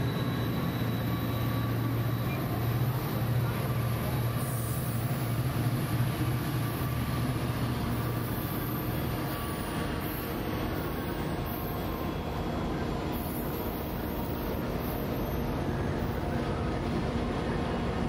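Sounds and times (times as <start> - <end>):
diesel locomotive engine rumble: 0.0 - 18.0.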